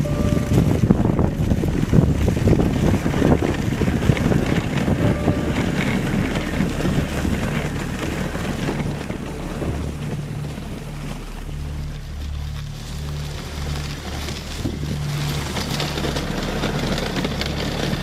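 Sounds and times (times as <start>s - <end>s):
dog sled moving over snow: 0.0s - 18.0s
low steady hum: 0.0s - 18.0s
wind noise on microphone: 0.0s - 18.0s.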